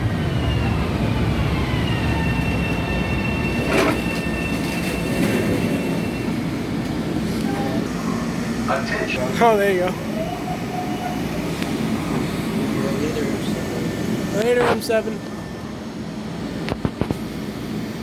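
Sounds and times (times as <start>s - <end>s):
electric train pulling in: 0.0s - 16.6s.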